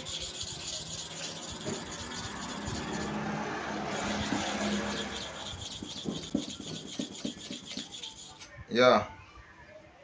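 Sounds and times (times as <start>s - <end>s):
blade scraping on sharpening stone: 0.0s - 8.6s.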